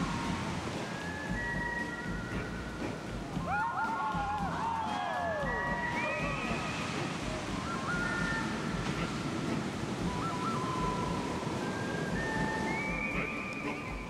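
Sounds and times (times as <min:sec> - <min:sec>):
surf breaking: 0:00.0 - 0:14.0.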